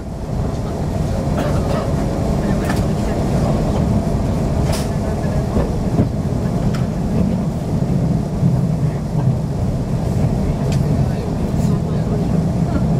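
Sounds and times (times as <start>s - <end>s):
train wheels rumbling: 0.0s - 12.9s.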